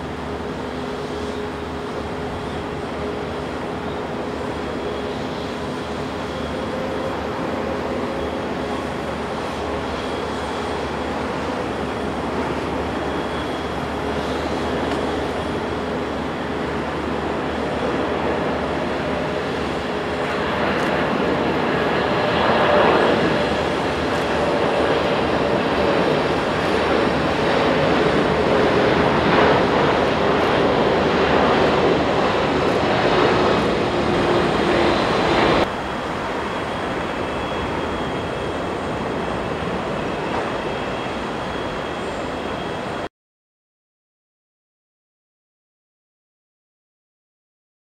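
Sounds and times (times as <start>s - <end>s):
jet engines roaring with whine: 0.0s - 43.1s.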